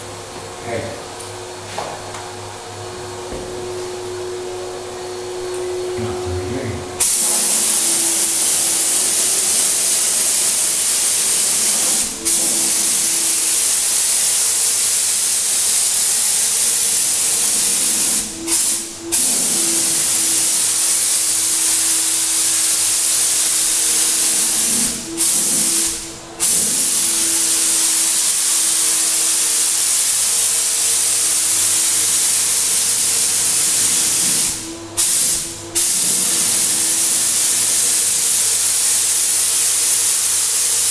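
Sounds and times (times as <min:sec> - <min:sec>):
spray gun hissing: 0:07.0 - 0:40.9.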